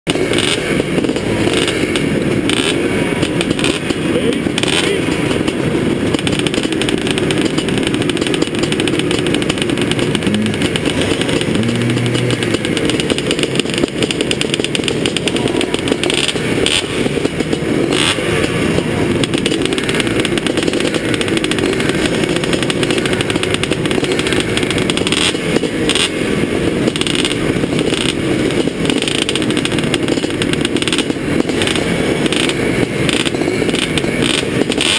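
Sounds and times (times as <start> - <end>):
motorcycles idling: 0.0 - 34.9.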